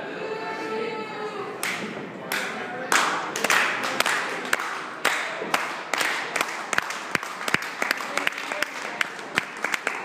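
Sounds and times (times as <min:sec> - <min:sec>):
crowd voices: 0:00.0 - 0:10.0
crowd clapping: 0:01.6 - 0:10.0.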